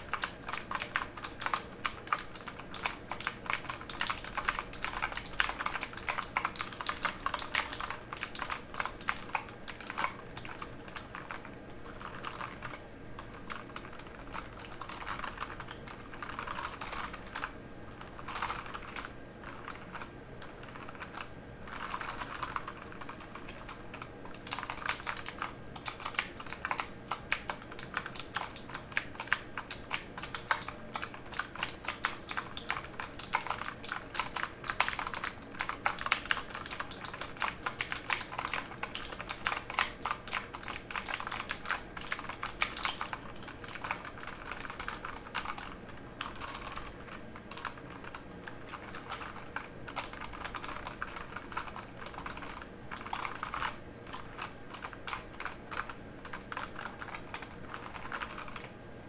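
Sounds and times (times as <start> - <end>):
mechanical keyboard typing: 0.0 - 58.7.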